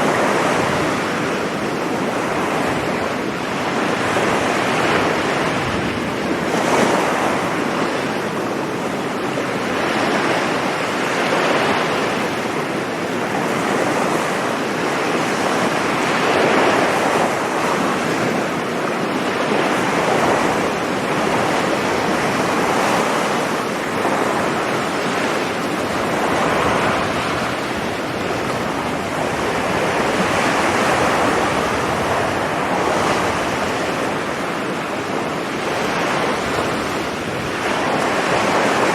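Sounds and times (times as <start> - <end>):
waves breaking on beach: 0.0 - 38.9
wind noise on microphone: 0.0 - 38.9.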